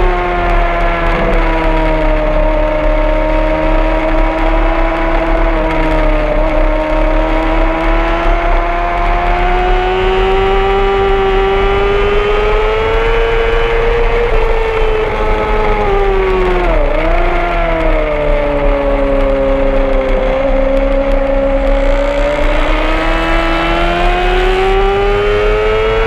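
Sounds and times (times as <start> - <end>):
low wind rumble: 0.0 - 26.0
motorcycle engine at high revs: 0.0 - 26.0.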